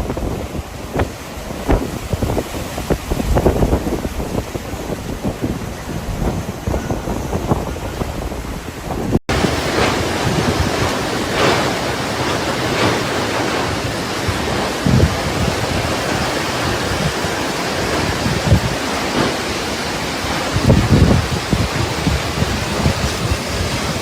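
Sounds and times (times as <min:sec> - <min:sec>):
rushing wind: 0:00.0 - 0:24.0
surf: 0:00.0 - 0:24.0
wind buffeting microphone: 0:00.0 - 0:24.0.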